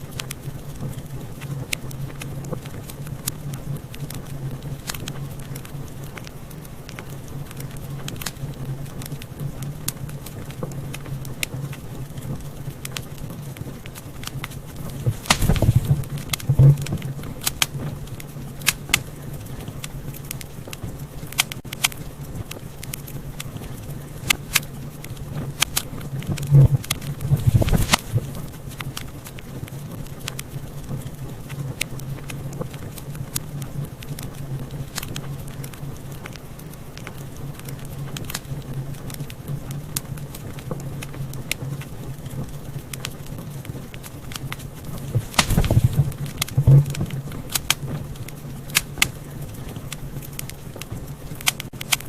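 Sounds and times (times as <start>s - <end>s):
steady low hum: 0.0s - 52.0s
wood fire crackling: 0.0s - 52.0s.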